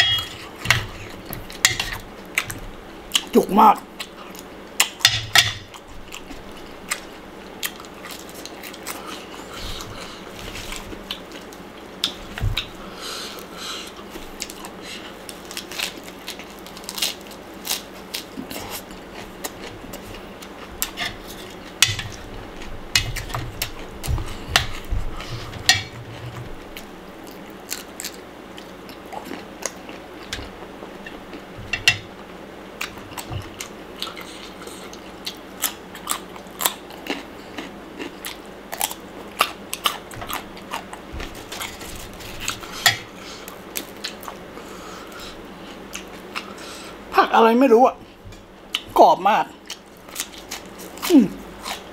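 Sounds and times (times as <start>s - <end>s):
person chewing and crunching food: 0.0s - 32.0s, 32.7s - 47.1s, 48.0s - 51.9s.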